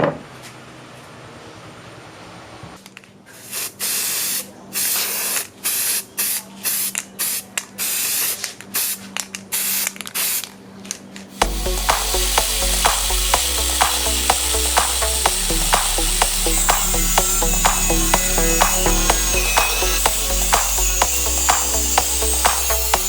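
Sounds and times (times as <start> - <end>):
aerosol spray can hissing: 3.4 - 10.5, 11.4 - 23.0.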